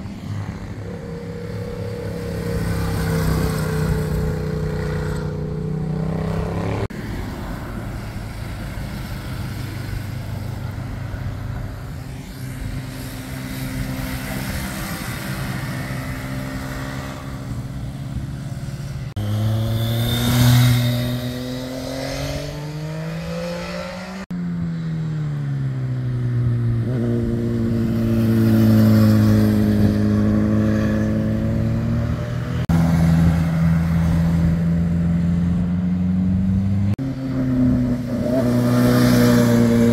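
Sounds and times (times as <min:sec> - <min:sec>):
cars and motorcycles passing: 0:00.0 - 0:39.9.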